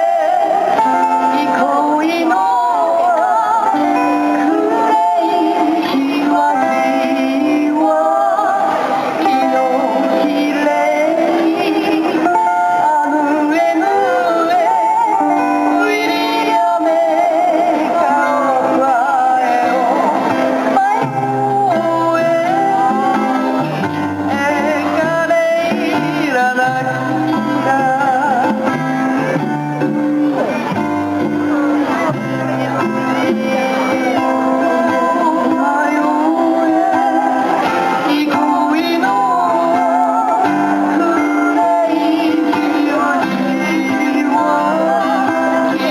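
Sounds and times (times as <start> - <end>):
person singing: 0.0 - 45.9
plucked strings: 0.0 - 45.9.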